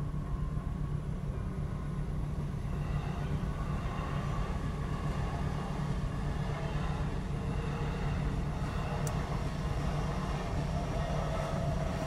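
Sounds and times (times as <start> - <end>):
faint even whine: 0.0 - 12.0
train wheels rumbling on track: 0.0 - 12.0.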